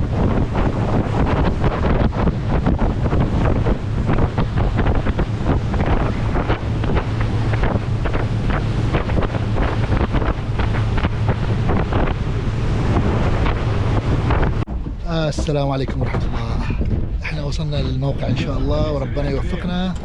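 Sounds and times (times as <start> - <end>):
boat engine drone: 0.0 - 20.0
water splashing against hull: 0.0 - 20.0
wind buffeting microphone: 0.0 - 20.0.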